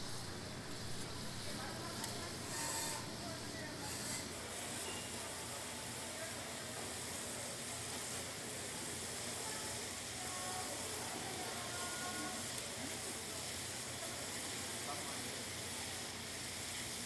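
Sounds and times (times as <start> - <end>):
meat sizzling on griddle: 0.0 - 17.0.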